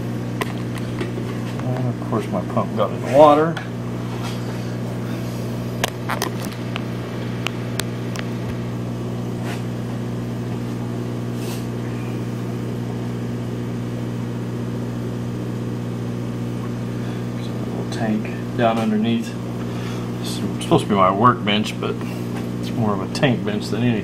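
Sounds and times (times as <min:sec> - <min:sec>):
air pump humming: 0:00.0 - 0:24.0.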